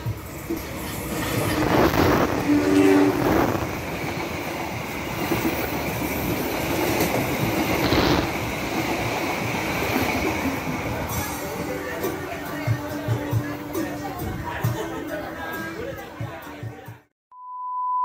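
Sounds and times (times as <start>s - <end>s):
diesel locomotive passing: 0.0s - 14.5s.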